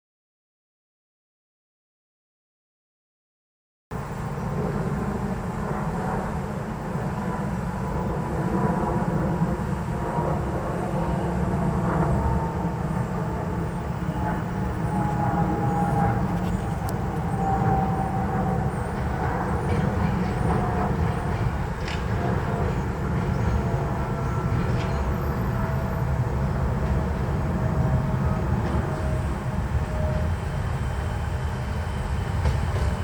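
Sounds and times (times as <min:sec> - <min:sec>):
tram rumbling on rails: 0:03.9 - 0:33.0
faint whine: 0:04.0 - 0:33.0.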